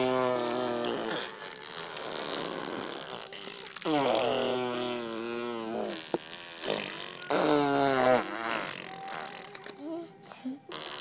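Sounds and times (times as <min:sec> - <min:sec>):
toddler blowing raspberry: 0:00.0 - 0:09.8.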